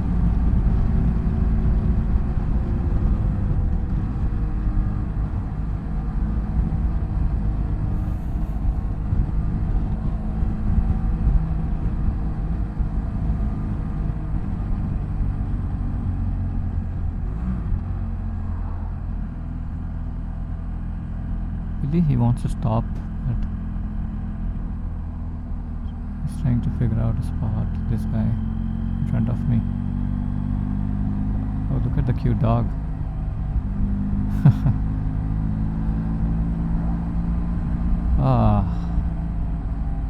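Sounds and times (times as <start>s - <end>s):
motorcycle engine rumble: 0.0s - 40.0s.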